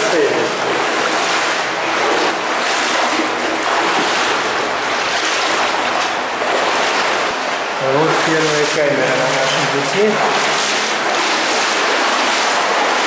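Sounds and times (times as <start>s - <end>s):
water rushing through tunnel: 0.0s - 13.0s.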